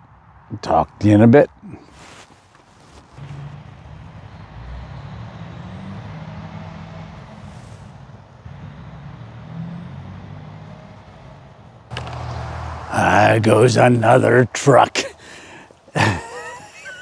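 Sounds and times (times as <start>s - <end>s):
truck passing on highway: 3.1s - 17.0s.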